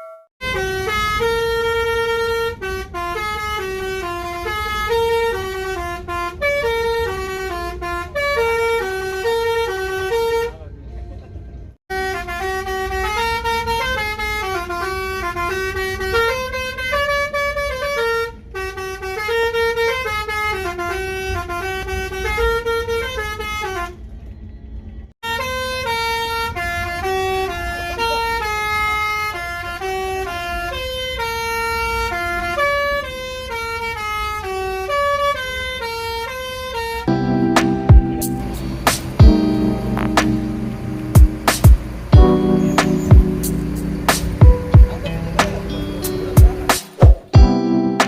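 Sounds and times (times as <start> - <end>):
musical bus air horn melody: 0.0 - 10.7, 11.9 - 24.1, 25.2 - 48.0
low engine rumble: 0.4 - 47.5.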